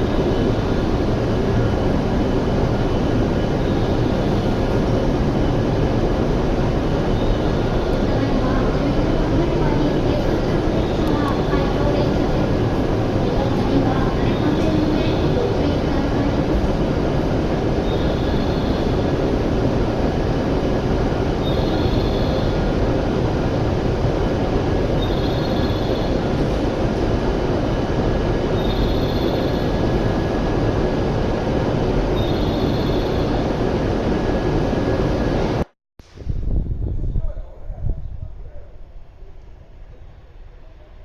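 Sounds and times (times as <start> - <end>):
train running rumble: 0.0 - 35.7.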